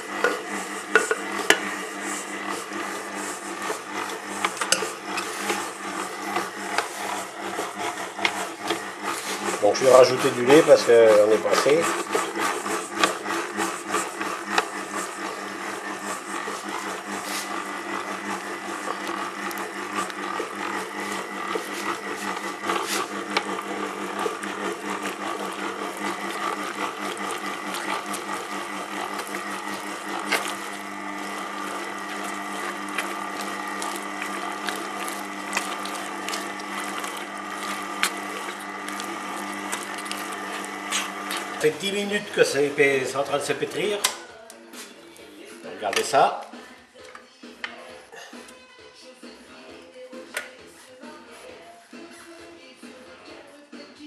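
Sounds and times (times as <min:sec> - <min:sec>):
stand mixer motor hum: 0:00.0 - 0:44.2.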